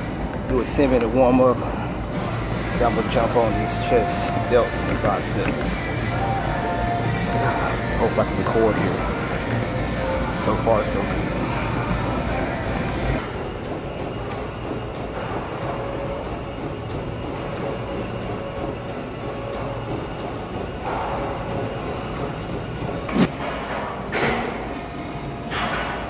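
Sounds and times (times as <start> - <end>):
gym background rumble: 0.0 - 26.0.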